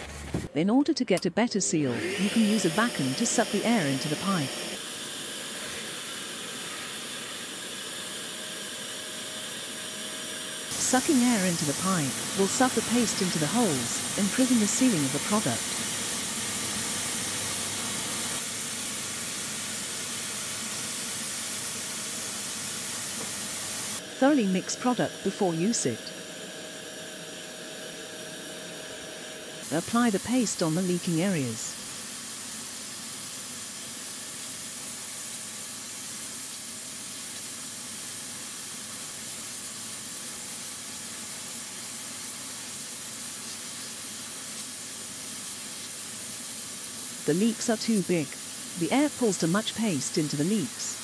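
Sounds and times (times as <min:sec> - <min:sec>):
vacuum cleaner hiss of rushing air: 0:02.0 - 0:51.0.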